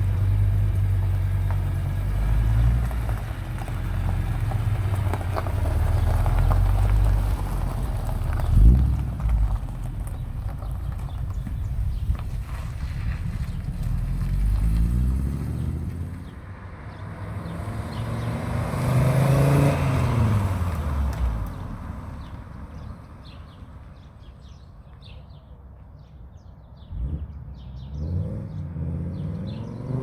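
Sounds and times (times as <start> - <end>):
car engine revving: 0.0 - 21.6, 27.0 - 30.0.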